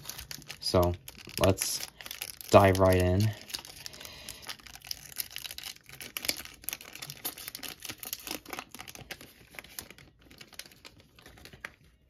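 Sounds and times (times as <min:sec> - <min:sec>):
cellophane wrapper crinkling and tearing: 0:00.0 - 0:12.0.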